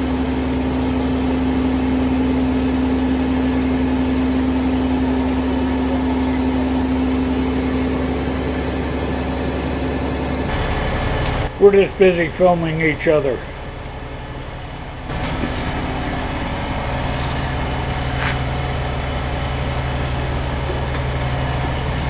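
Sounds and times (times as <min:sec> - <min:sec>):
truck engine idling: 0:00.0 - 0:22.0
winch whine: 0:00.0 - 0:22.0.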